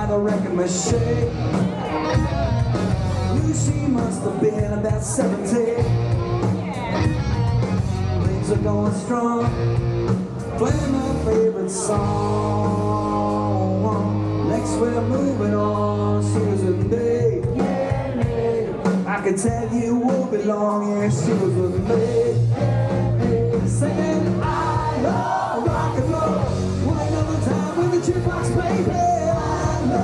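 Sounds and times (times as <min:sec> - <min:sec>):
live band with singer: 0:00.0 - 0:30.0.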